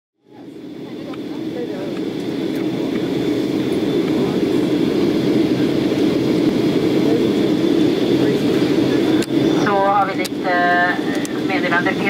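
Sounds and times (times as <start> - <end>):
jet engine cabin roar: 0.2 - 12.0.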